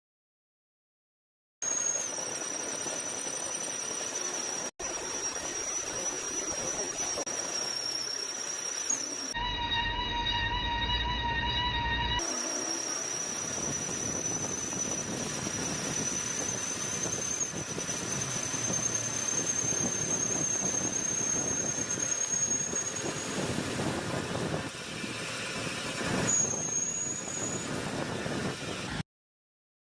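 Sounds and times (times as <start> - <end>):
lathe cutting metal squeal: 1.6 - 29.0
rough machining noise: 1.6 - 29.0.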